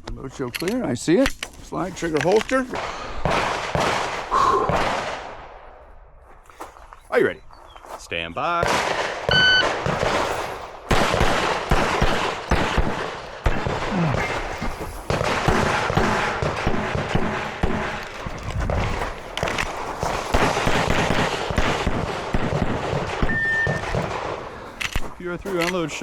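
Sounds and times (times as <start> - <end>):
pistol shots: 2.2 - 5.8, 8.6 - 26.0.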